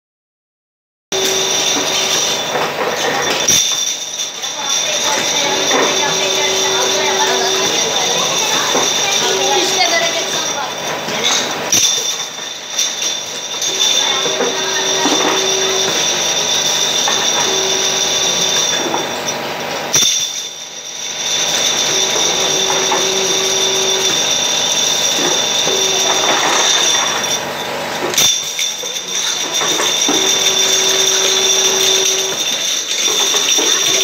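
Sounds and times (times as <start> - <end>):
filling machine high whine: 1.1 - 34.0
glass jars clinking: 1.2 - 34.0.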